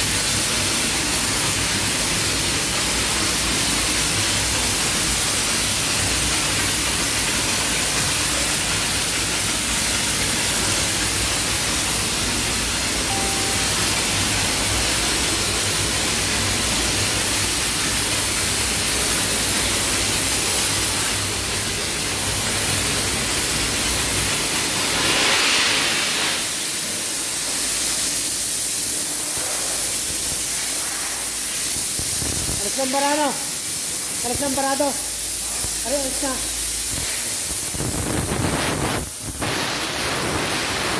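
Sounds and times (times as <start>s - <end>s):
steam wand hissing: 0.0s - 40.9s.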